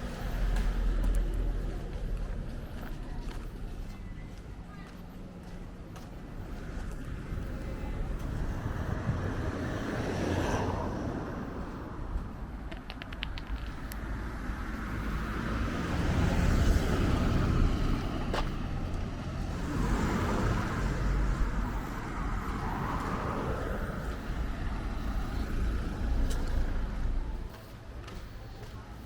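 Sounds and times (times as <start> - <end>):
cars driving past: 0.0 - 29.0.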